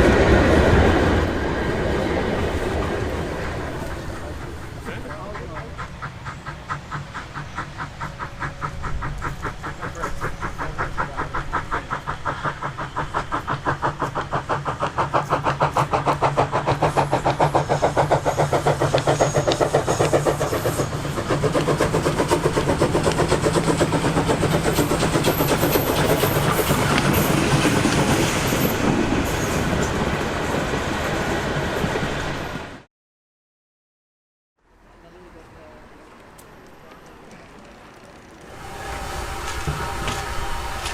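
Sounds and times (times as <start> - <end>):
steam locomotive exhaust beats: 0.0 - 32.4, 35.1 - 40.9.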